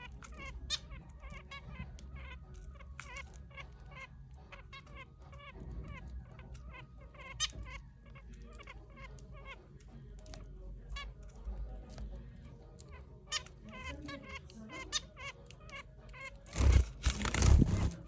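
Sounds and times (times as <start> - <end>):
finches giving nasal calls: 0.0 - 9.8, 12.8 - 18.0.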